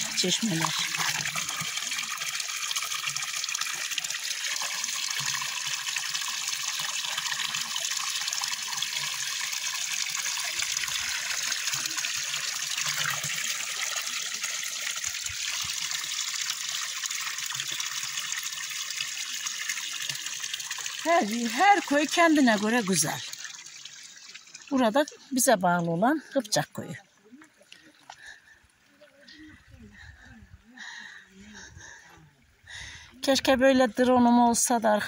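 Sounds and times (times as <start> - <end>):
water pouring into a trough: 0.0 - 28.4.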